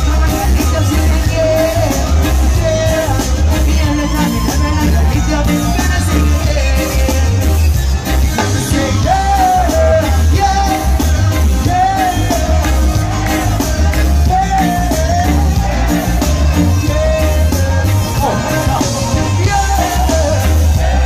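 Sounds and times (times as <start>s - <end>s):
heavy bass line: 0.0s - 21.0s
person singing: 0.0s - 21.0s
reggae band playing: 0.0s - 21.0s.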